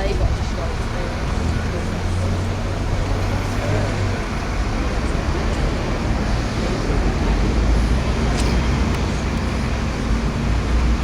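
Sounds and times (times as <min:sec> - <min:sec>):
traffic noise: 0:00.0 - 0:11.0
vehicle engine running: 0:00.0 - 0:11.0.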